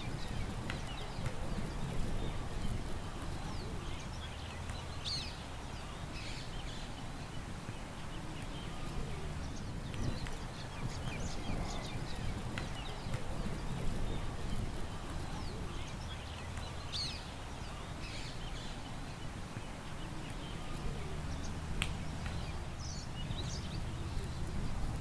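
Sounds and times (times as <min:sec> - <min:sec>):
low rumble of wind: 0:00.0 - 0:25.0
small birds chirping: 0:00.0 - 0:25.0.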